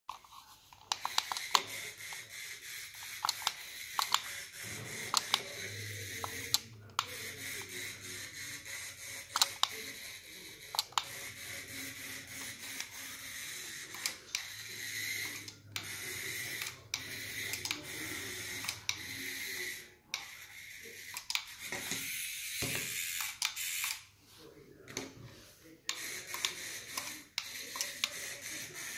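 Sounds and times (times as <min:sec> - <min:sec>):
toy motor whirring: 0:00.1 - 0:24.1, 0:24.8 - 0:28.9.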